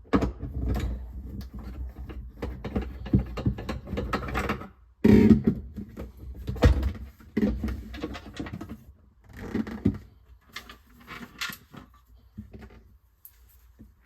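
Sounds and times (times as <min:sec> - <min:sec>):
plastic parts knocking and scraping: 0:00.0 - 0:12.9.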